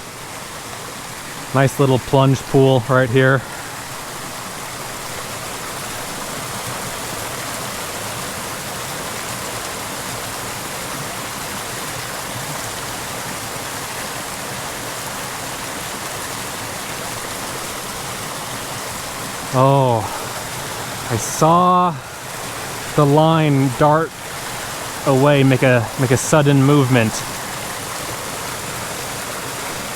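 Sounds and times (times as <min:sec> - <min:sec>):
creek rushing into pool: 0:00.0 - 0:29.9.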